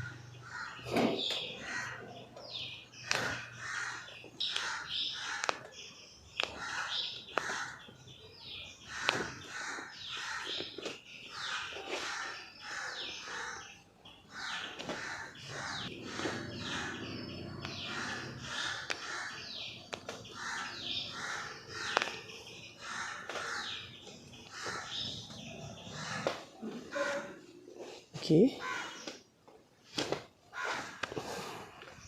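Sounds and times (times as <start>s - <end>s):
crows cawing: 0.0s - 5.8s, 6.4s - 8.1s, 8.7s - 27.4s, 28.6s - 29.2s, 30.5s - 31.2s.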